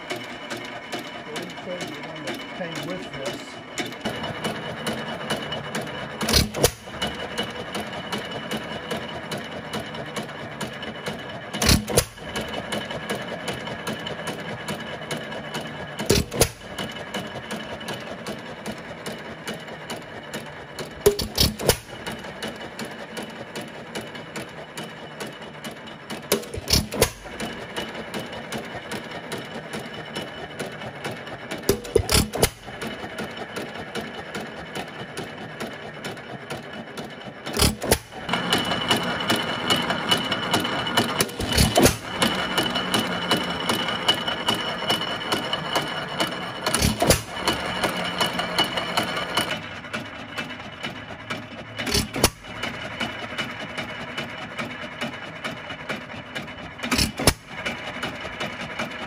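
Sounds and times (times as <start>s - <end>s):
engine firing stroke: 0.0s - 59.0s
valve gear clatter: 0.1s - 34.8s, 37.5s - 49.7s, 51.8s - 53.7s, 56.8s - 58.8s.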